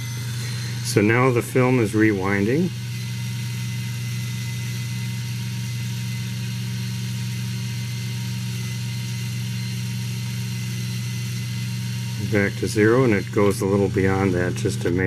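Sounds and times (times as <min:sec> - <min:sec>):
camera motor rewinding film: 0:00.0 - 0:15.0.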